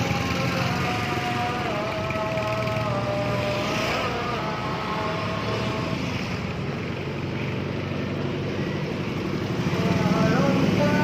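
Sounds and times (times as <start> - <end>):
scooter engine rumble: 0.0 - 11.0
street traffic noise: 0.0 - 11.0.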